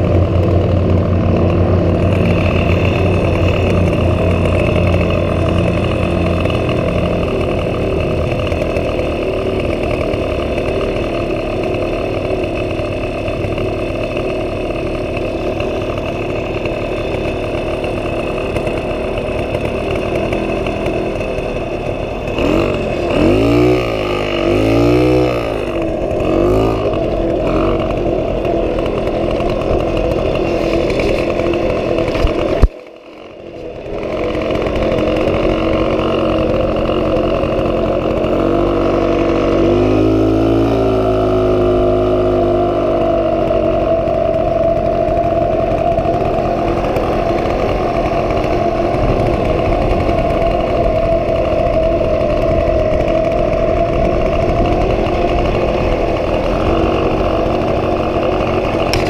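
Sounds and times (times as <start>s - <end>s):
moped engine idling and revving: 0.0s - 59.0s.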